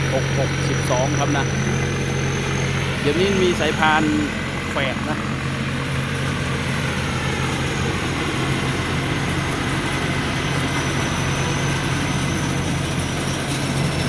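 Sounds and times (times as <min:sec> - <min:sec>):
combine harvester engine hum: 0:00.0 - 0:14.0.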